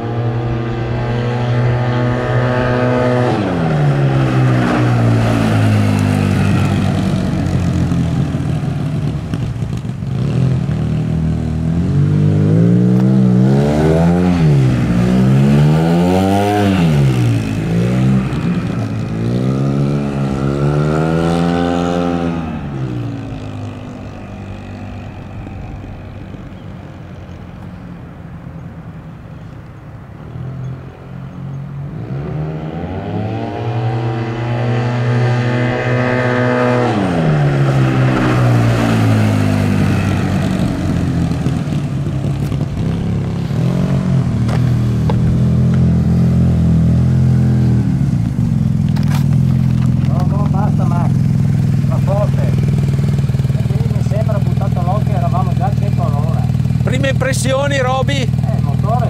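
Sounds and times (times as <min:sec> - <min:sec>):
scooter engine revving: 0:00.0 - 0:27.5, 0:31.9 - 0:59.0.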